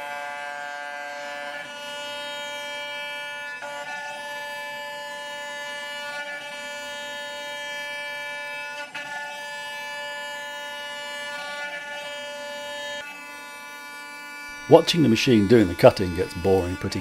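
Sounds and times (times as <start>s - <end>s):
cnc router whining: 0.0s - 17.0s.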